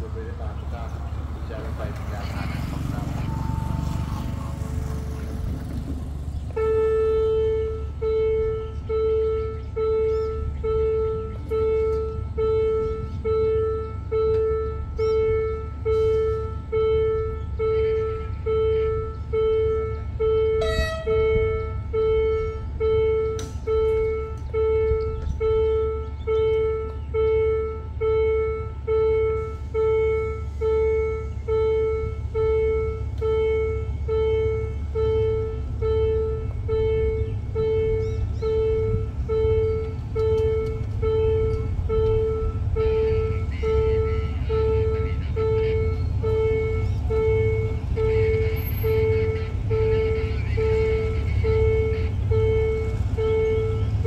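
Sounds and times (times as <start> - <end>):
level crossing warning bell: 2.8 - 4.7, 6.5 - 54.0.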